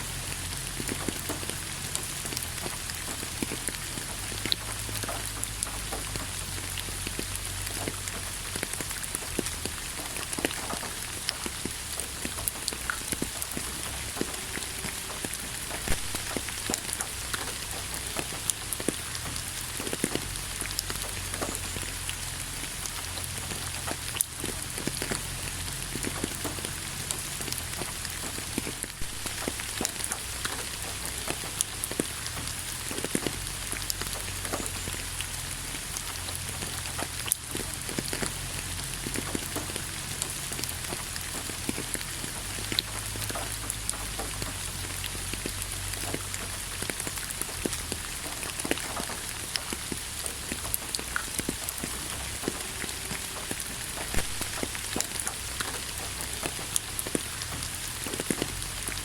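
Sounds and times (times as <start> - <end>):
rain drops tapping: 0.0 - 59.0.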